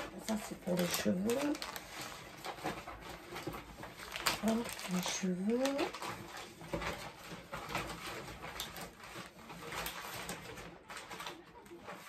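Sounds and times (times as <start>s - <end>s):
packets rustling and knocking: 0.0s - 12.0s.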